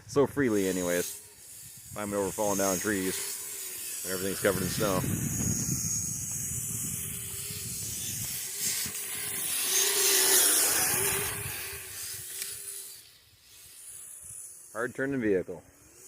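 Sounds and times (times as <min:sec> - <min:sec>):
snow hiss: 0:00.0 - 0:15.6
toy vehicle motor whine: 0:00.2 - 0:16.0.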